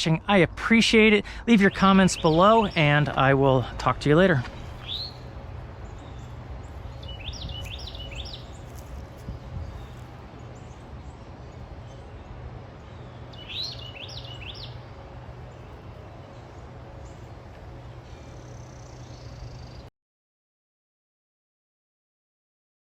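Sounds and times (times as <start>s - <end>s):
steady low background hum: 0.0s - 19.9s
songbird singing rising notes: 1.5s - 19.9s.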